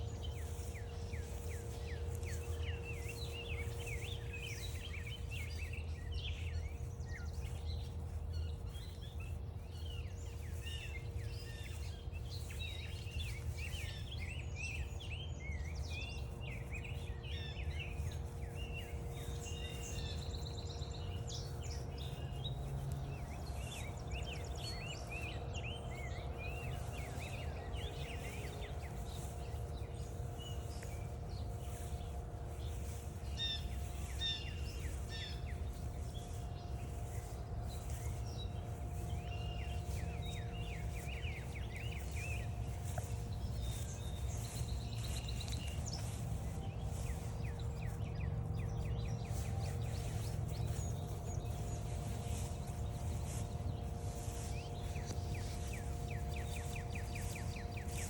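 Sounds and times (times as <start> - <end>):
faint hum: 0.0 - 58.0
songbirds singing and calling: 0.0 - 58.0.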